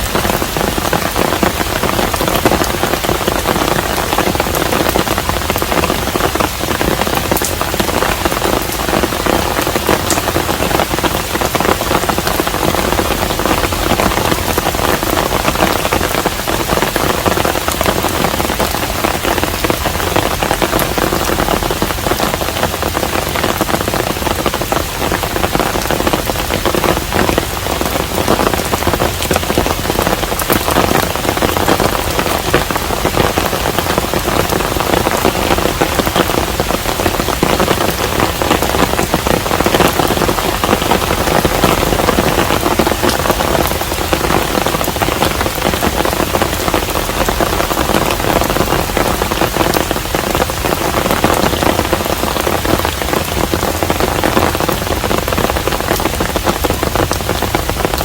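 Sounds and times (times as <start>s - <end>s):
rain patter on roof: 0.0s - 58.0s.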